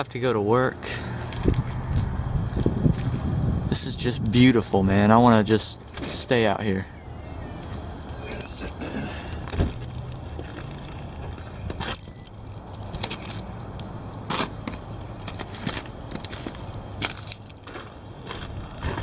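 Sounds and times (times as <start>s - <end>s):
steady low rumble: 0.0s - 17.2s.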